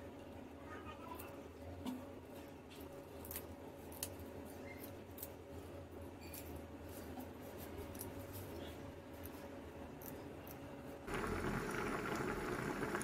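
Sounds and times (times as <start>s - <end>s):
low steady hum: 1.3s - 13.0s.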